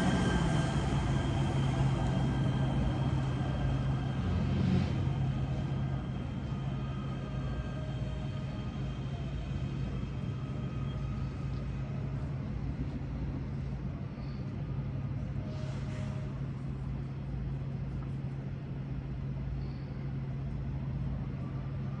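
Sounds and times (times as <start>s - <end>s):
low hum of vehicles: 0.0s - 22.0s.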